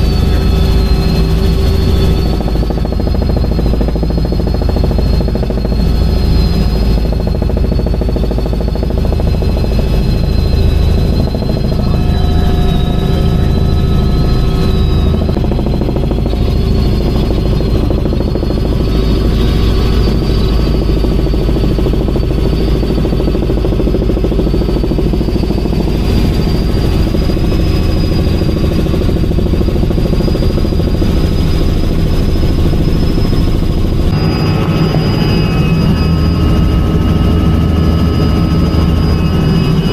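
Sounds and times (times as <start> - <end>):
helicopter rotor and engine drone: 0.0 - 39.9
high whine: 0.0 - 39.9.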